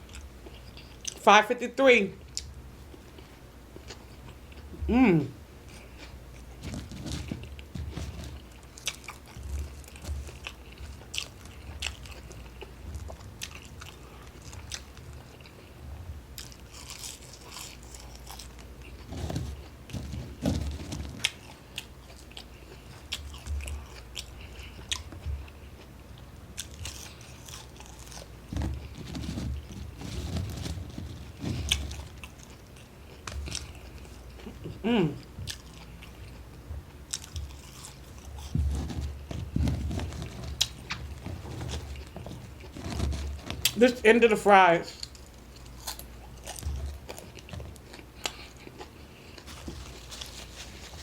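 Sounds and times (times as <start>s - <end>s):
person chewing fries: 0.0s - 1.2s, 2.2s - 44.0s, 44.9s - 51.0s.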